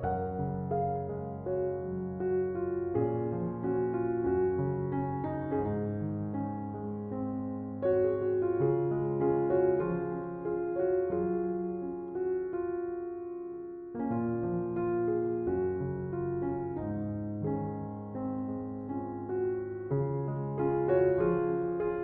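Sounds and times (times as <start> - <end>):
piano chords and melody: 0.0 - 22.0.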